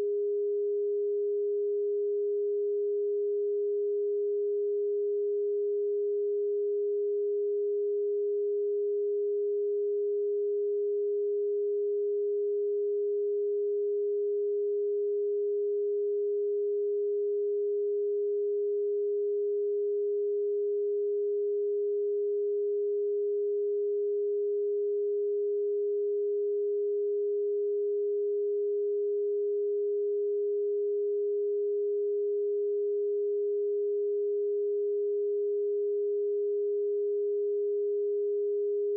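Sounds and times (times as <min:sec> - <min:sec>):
pure sine tone: 0:00.0 - 0:38.9.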